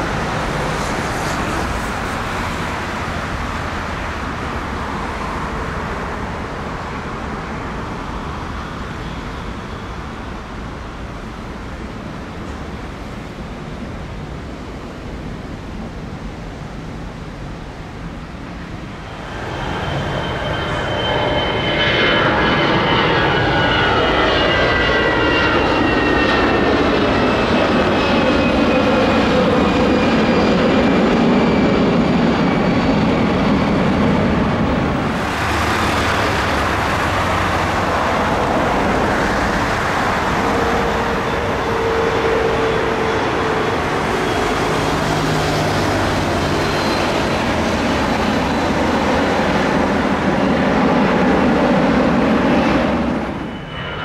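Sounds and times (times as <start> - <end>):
jet engine rumble: 0.0 - 54.0
jet engine whine: 0.0 - 54.0.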